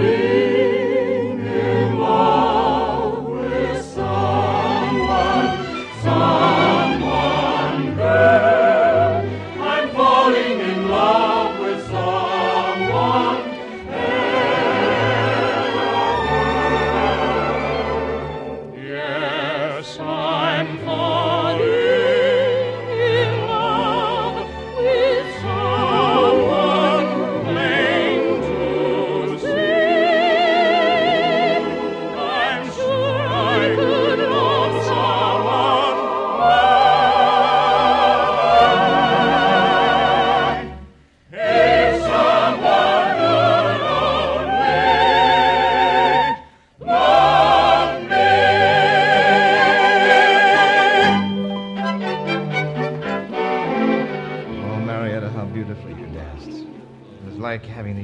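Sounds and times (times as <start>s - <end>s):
operatic singing: 0.0s - 58.0s
orchestra: 0.0s - 58.0s.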